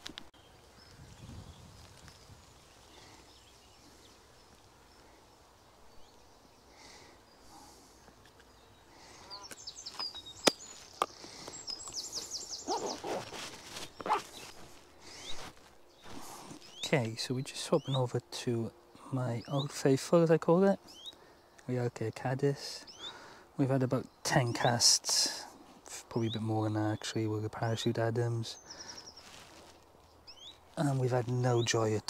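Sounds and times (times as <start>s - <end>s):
songbirds calling: 0.0s - 32.0s.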